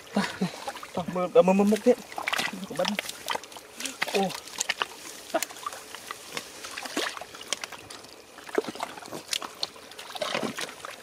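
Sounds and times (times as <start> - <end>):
wet mud squelching: 0.0 - 11.0.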